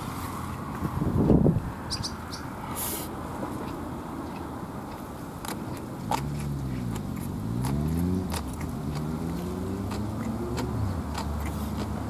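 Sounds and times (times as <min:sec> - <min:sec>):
passing vehicle engine: 0:00.0 - 0:12.0.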